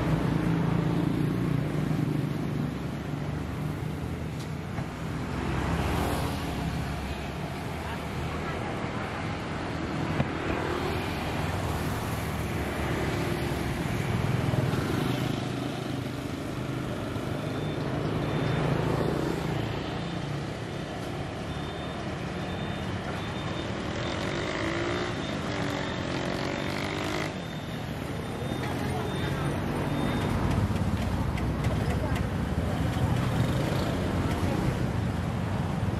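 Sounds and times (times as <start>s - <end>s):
cars and motorbikes passing: 0.0s - 35.9s.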